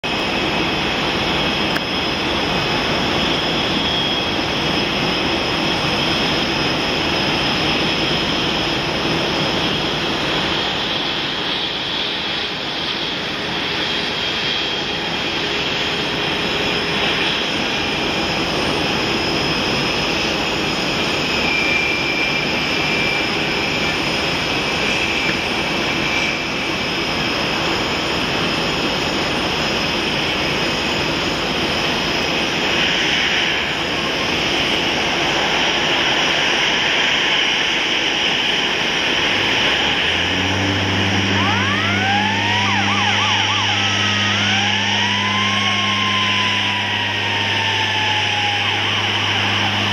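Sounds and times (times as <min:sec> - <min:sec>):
jet engines with high whine: 0:00.0 - 0:49.9.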